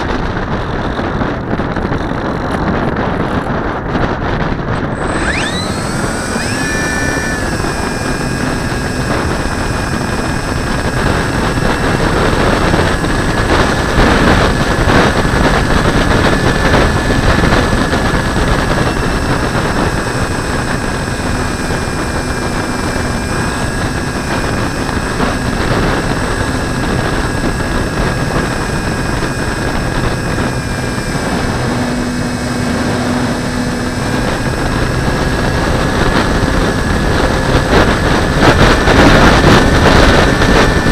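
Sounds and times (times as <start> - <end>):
airflow rushing over camera: 0.0 - 40.9
faint high whining tones: 4.7 - 40.9.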